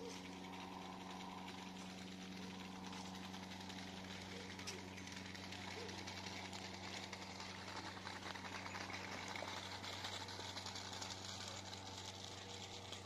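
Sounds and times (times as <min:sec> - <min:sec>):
propeller engine droning overhead: 0:00.0 - 0:13.0.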